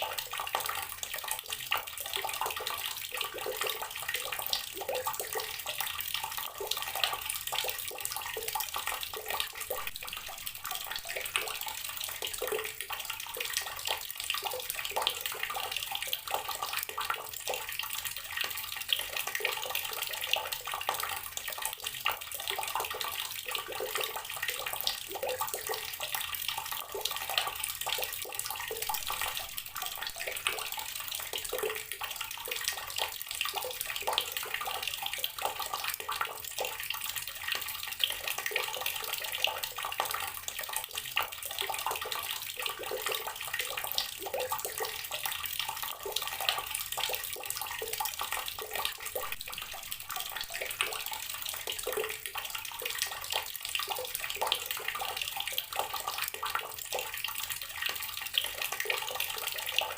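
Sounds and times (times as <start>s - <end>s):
water running from tap: 0.0s - 59.9s.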